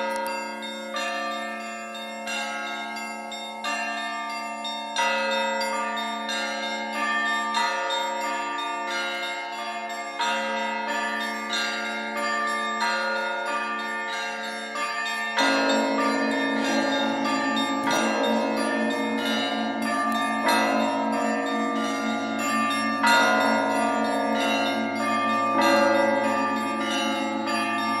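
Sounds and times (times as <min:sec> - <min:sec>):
church bells ringing: 0:00.0 - 0:28.0
low heavy bells: 0:00.0 - 0:28.0.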